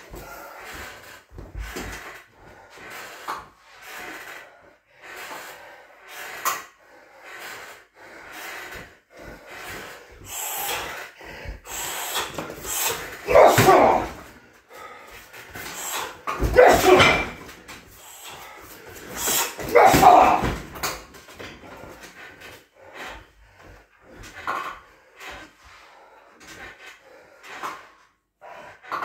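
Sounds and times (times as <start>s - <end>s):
person panting: 0.0s - 19.7s, 21.4s - 29.0s.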